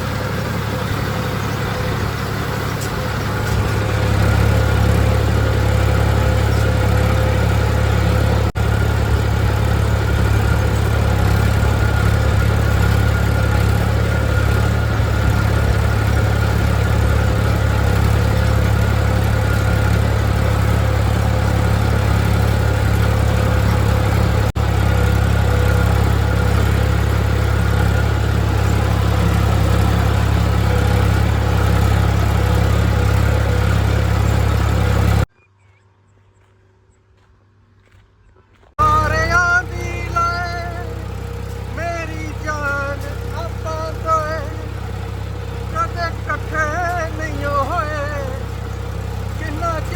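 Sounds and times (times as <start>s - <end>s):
tractor engine rumbling: 0.0s - 49.9s.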